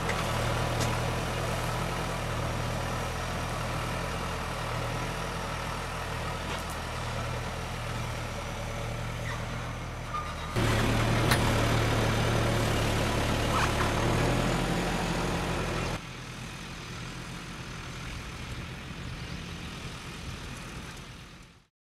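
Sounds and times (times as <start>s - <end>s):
tractor engine running: 0.0s - 21.6s.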